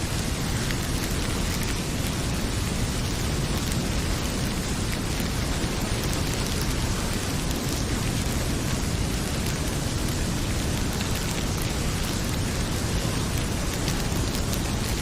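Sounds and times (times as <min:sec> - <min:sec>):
heavy rain pouring: 0:00.0 - 0:15.0
wood fire crackling: 0:00.0 - 0:15.0.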